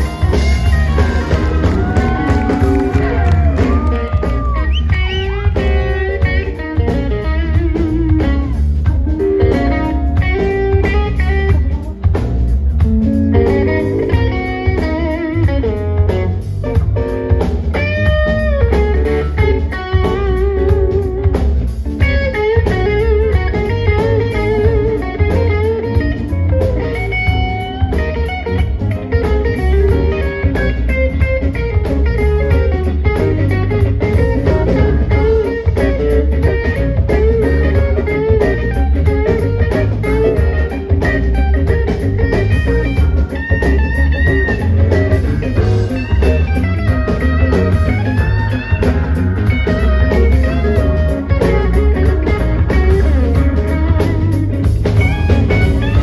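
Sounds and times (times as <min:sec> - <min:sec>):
electric guitar sliding notes: 0:00.0 - 0:56.0
live blues band playing: 0:00.0 - 0:56.0.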